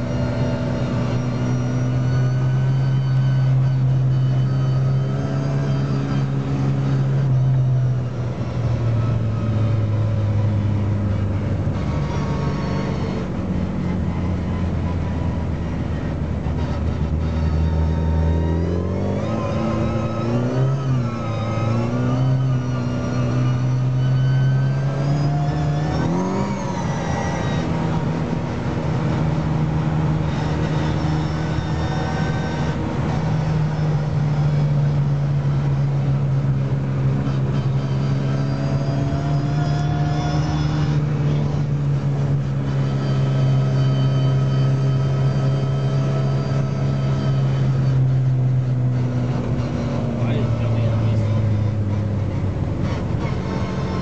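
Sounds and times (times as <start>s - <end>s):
car engine while driving: 0.0s - 54.0s.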